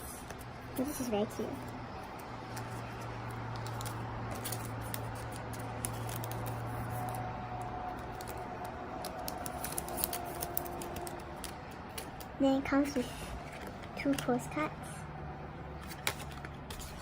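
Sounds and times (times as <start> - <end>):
plastic packaging and paper rustling: 0.2 - 14.5, 15.8 - 17.0.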